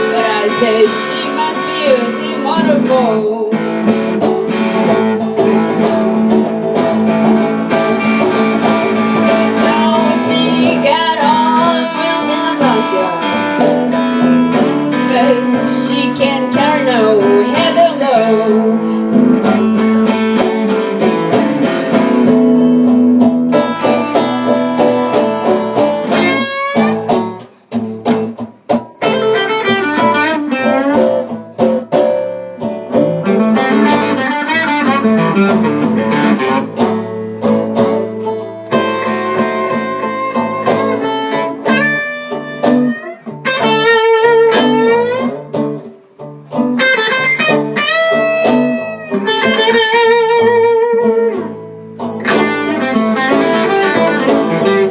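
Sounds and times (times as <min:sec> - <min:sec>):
bass: 0:00.0 - 0:26.4, 0:27.1 - 0:54.9
blues guitar: 0:00.0 - 0:54.9.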